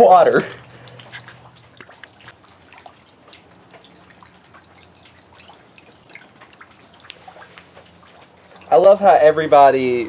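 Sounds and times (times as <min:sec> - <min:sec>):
water dripping: 0:00.0 - 0:10.0.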